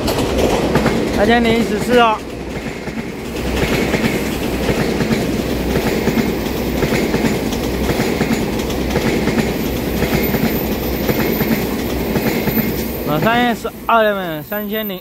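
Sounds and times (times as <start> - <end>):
wheels clickety-clack: 0.0 - 13.8
train rolling rumble: 0.0 - 15.0.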